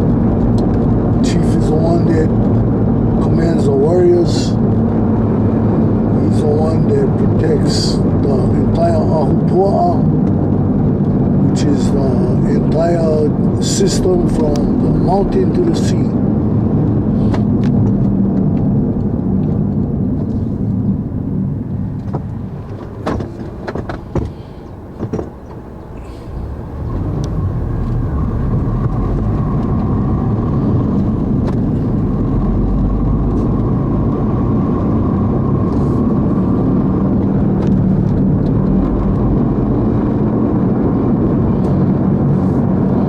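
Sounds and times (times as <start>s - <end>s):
car engine and road drone: 0.0s - 43.0s.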